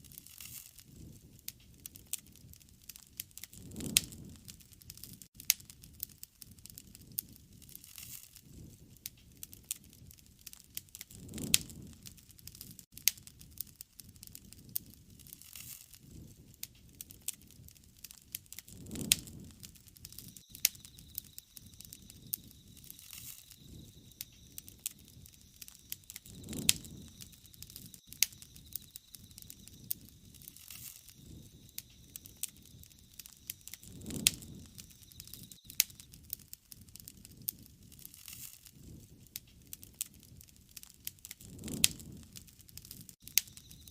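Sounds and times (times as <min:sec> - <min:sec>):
wood fire crackling: 0:00.0 - 0:43.9
burning wood popping: 0:00.1 - 0:43.9
rush of flame: 0:00.1 - 0:43.9.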